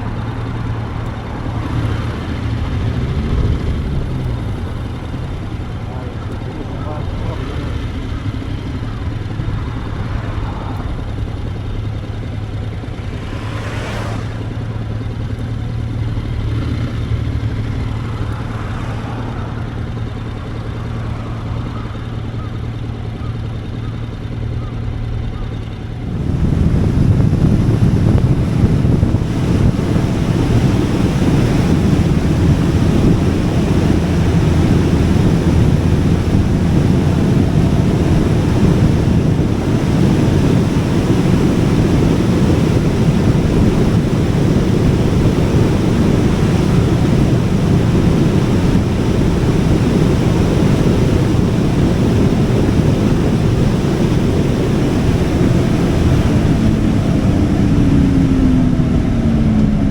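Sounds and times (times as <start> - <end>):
wind buffeting microphone: 0.0 - 23.9, 25.8 - 59.9.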